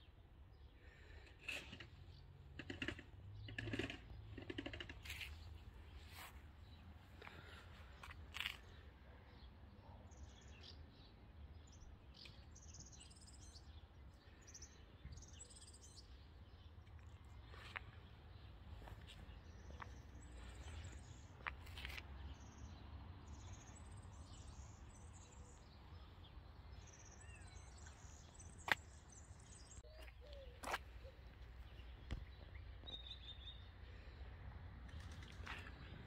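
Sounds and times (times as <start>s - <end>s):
distant birds chirping: 0.0s - 34.3s.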